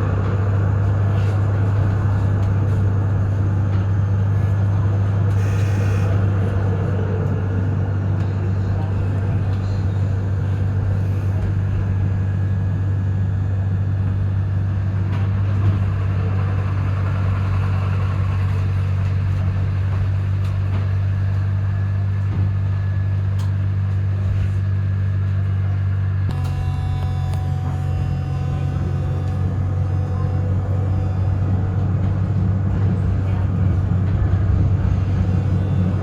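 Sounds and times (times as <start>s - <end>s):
tram running with low hum: 0.0s - 36.0s.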